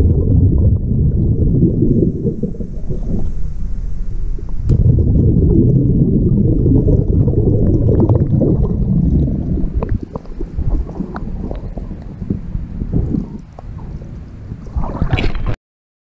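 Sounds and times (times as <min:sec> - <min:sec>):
underwater bubbling and gurgling: 0:00.0 - 0:15.6.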